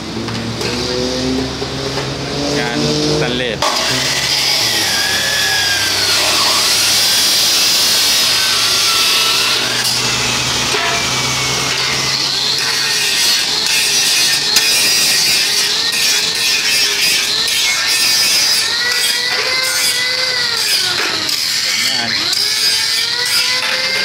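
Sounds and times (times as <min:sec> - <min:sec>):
chop saw grinding metal: 0:02.6 - 0:24.0.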